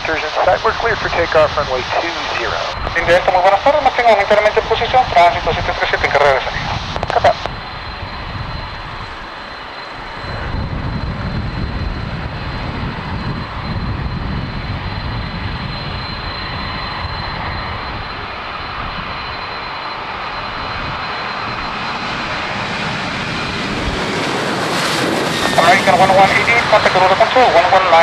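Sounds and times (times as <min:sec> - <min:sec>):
jet engines rumbling: 0:00.0 - 0:28.0
thin high whine: 0:00.0 - 0:28.0.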